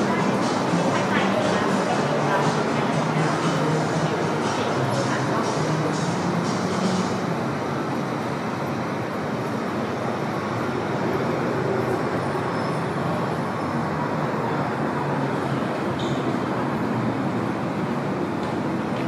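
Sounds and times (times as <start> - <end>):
indoor hall background noise: 0.0 - 19.0.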